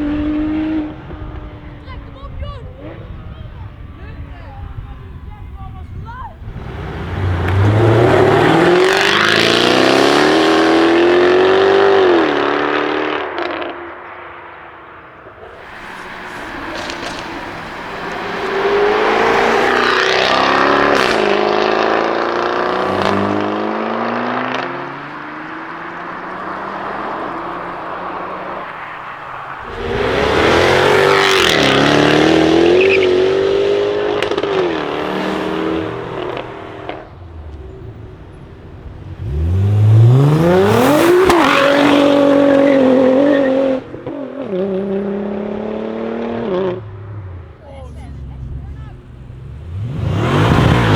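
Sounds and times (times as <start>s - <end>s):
sharp exhaust crackles: 0.0s - 12.2s, 14.6s - 44.0s, 46.4s - 50.9s
car engine accelerating hard: 0.0s - 50.9s.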